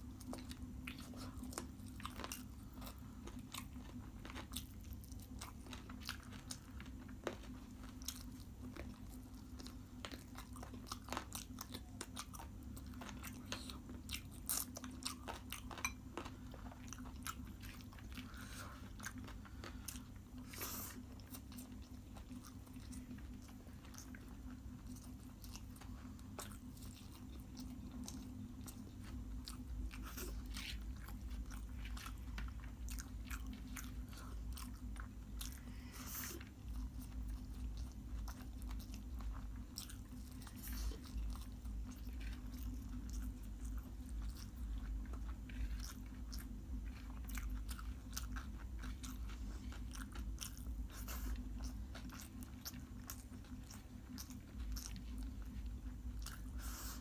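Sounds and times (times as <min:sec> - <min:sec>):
person chewing and biting food: 0:00.0 - 0:57.0.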